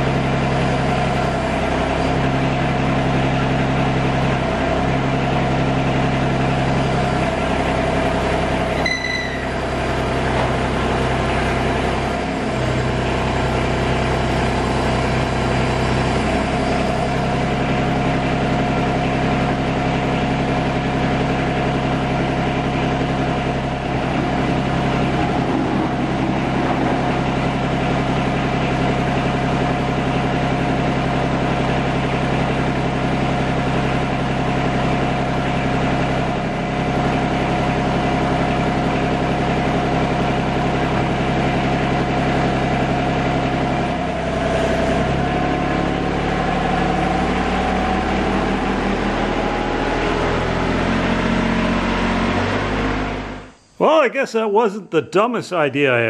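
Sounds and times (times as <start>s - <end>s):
tractor engine idling: 0.0s - 51.2s.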